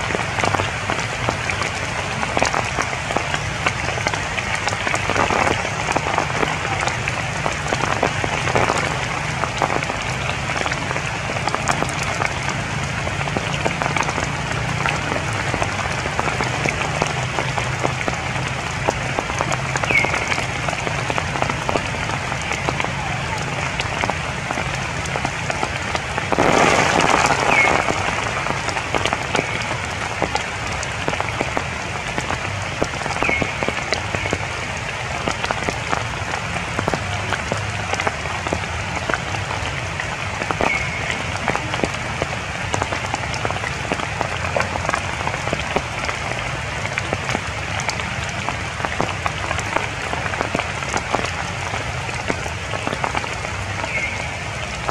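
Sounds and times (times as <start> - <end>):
rain falling on leaves: 0.0 - 54.9.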